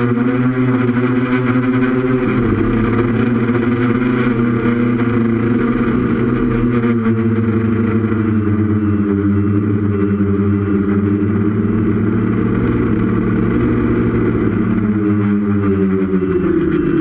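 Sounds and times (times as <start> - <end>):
drone motors and propellers: 0.0 - 17.0
faint high beeping alarm: 1.2 - 17.0.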